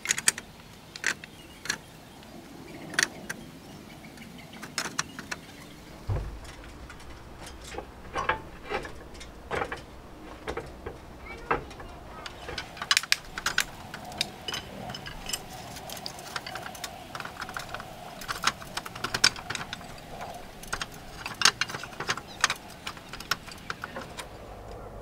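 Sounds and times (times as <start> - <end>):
clay roof tiles clinking: 4.6 - 24.8.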